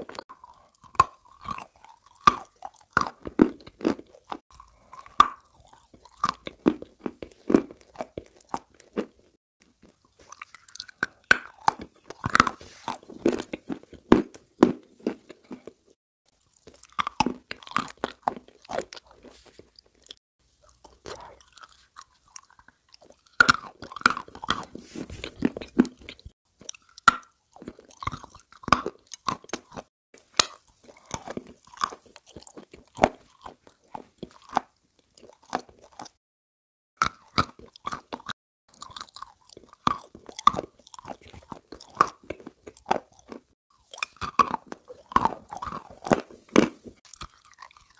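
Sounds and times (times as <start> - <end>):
chewing and crunching biscuits: 0.0 - 36.2, 36.9 - 47.9.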